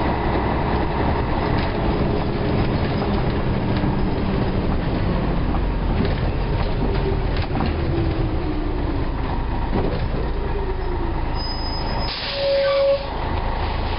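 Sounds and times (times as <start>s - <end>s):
bus engine drone: 0.0s - 13.9s.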